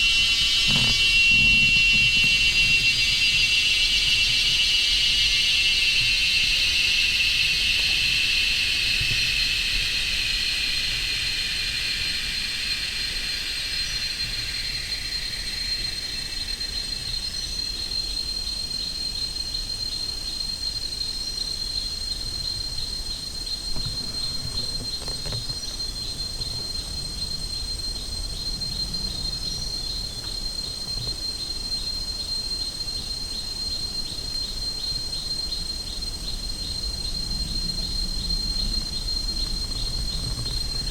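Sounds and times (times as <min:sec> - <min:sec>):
buzzing insect chorus: 0:00.0 - 0:40.9
pulsing high-pitched insect trill: 0:00.0 - 0:40.9.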